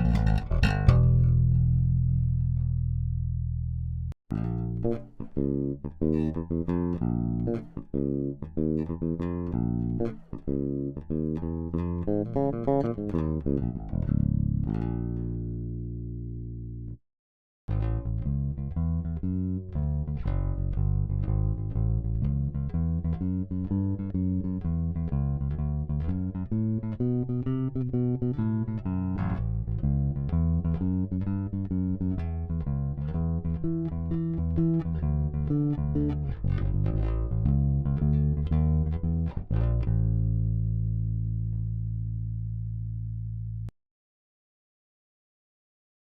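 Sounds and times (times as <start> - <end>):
electric bass guitar plucked: 0.0 - 17.0, 17.7 - 43.7.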